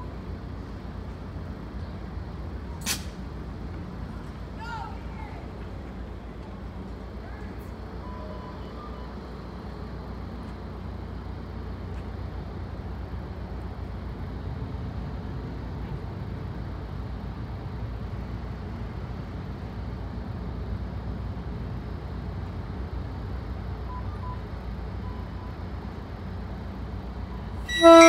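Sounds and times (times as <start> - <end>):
diesel train rumbling to a stop: 0.0 - 28.0.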